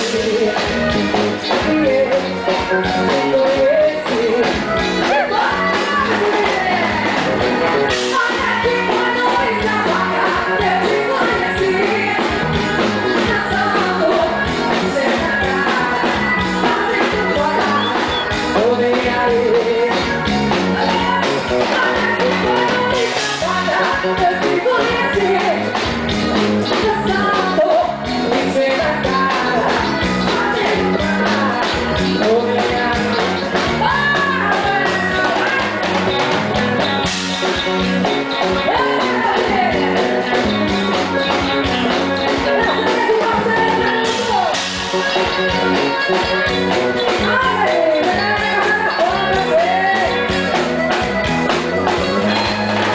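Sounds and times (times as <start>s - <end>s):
person singing: 0.0s - 25.8s, 26.6s - 36.0s, 38.5s - 50.7s
band playing with busy beat: 0.0s - 52.9s.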